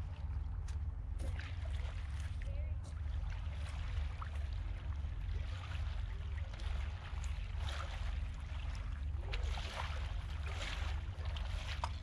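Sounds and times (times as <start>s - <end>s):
seawater lapping and trickling: 0.0s - 12.0s.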